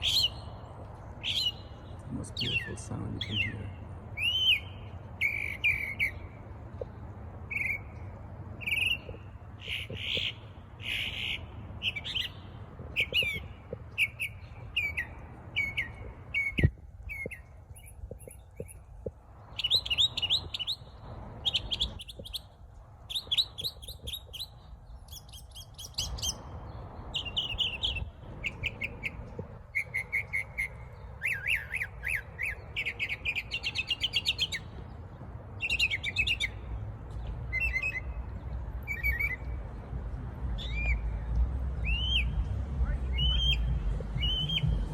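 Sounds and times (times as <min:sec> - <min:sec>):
bird singing: 0:00.0 - 0:06.4, 0:07.4 - 0:18.9, 0:19.5 - 0:39.9, 0:40.5 - 0:44.9.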